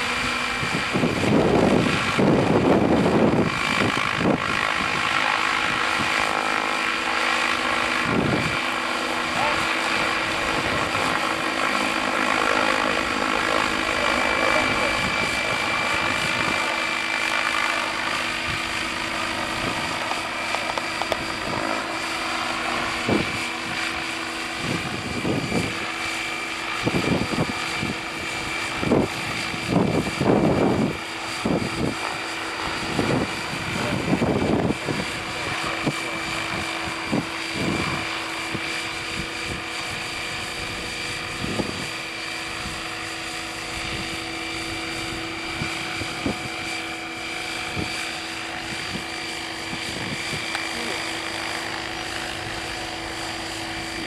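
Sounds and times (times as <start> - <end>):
radio-controlled helicopter whine: 0.0 - 54.0.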